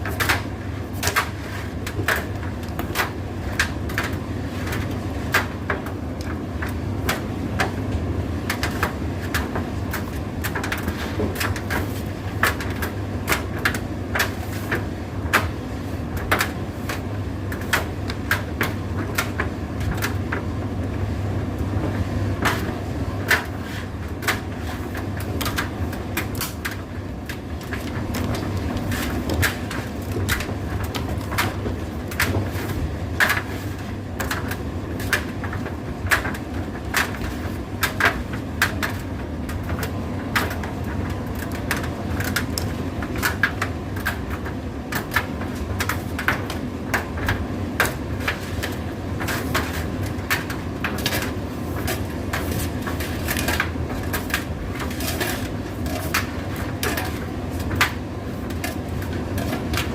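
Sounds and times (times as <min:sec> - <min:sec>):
tumble dryer humming: 0:02.2 - 0:59.9.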